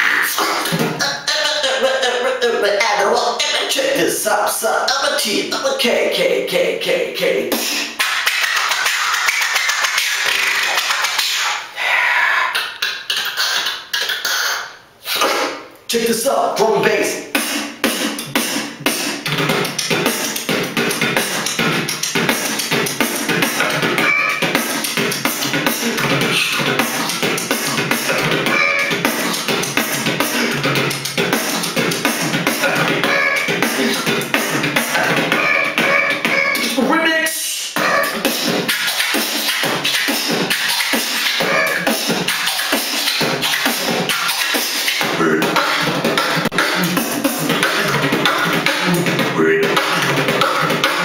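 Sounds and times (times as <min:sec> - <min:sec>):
beatboxing: 0:00.0 - 0:51.0.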